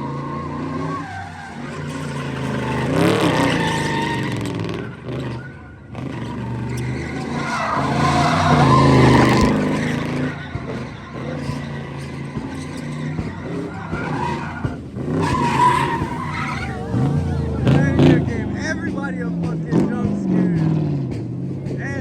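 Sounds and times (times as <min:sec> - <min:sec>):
car engine revving hard: 0:00.0 - 0:22.0
tires squealing: 0:00.0 - 0:22.0.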